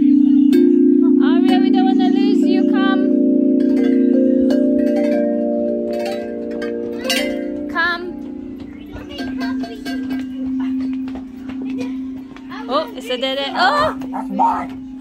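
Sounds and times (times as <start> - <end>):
metal chimes ringing: 0.0 - 15.0.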